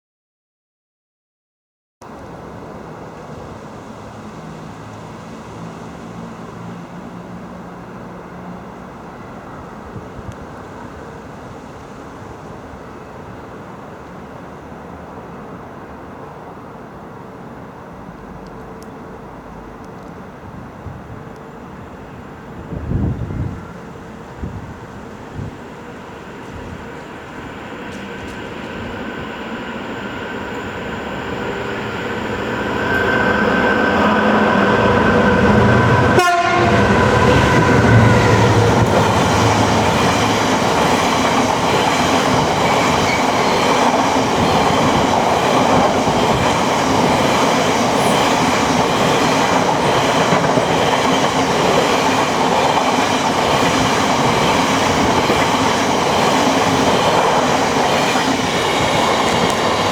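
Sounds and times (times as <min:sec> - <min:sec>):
diesel locomotive engine passing: 0:02.1 - 0:59.9.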